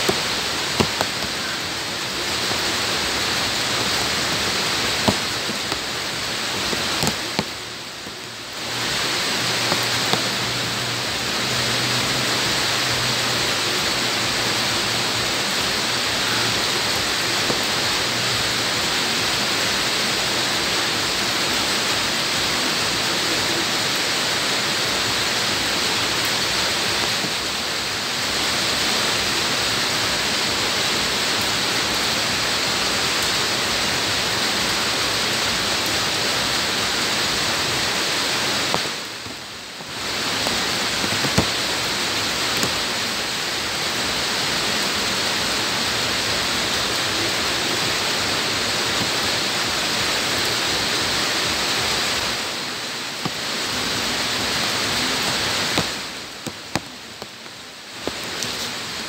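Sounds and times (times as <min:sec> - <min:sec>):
rain falling on ground: 0:00.0 - 0:59.0.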